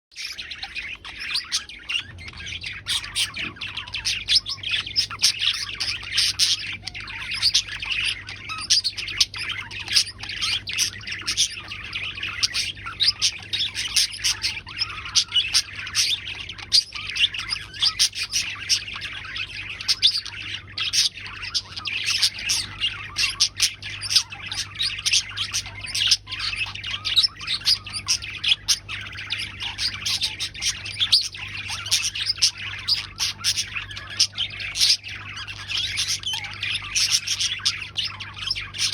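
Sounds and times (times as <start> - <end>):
budgerigars chattering and chirping: 0.1 - 38.9.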